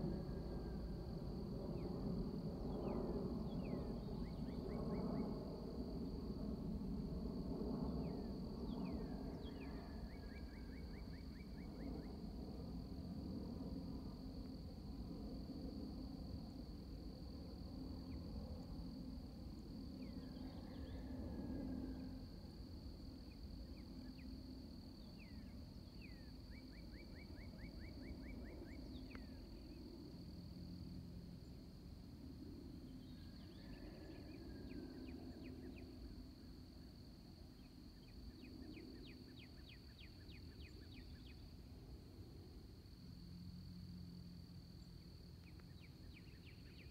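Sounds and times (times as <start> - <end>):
faint low rumble: 0.0 - 46.9.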